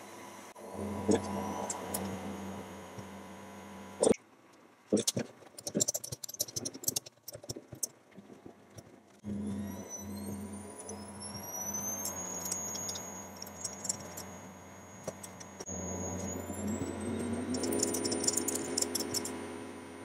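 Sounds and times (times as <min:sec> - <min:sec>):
low hum with high whine: 0:00.0 - 0:20.0.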